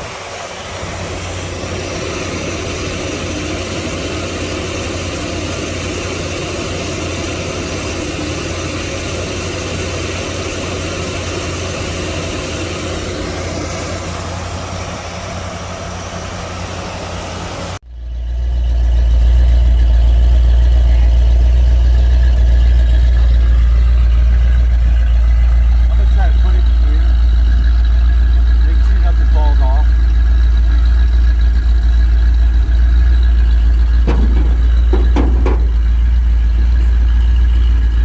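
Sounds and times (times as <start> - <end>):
deep steady rumble: 0.0 - 38.0
pickup truck engine running: 0.0 - 38.0.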